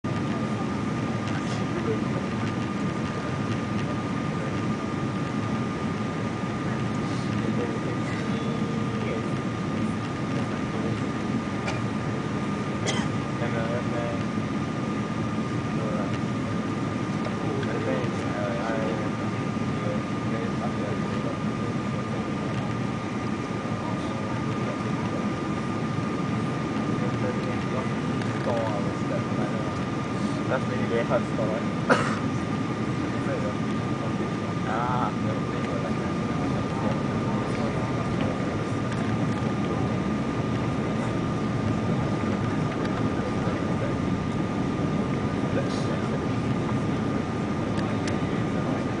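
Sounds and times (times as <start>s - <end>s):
airplane cabin engine rumble: 0.0s - 49.0s
thin steady whine: 0.0s - 49.0s.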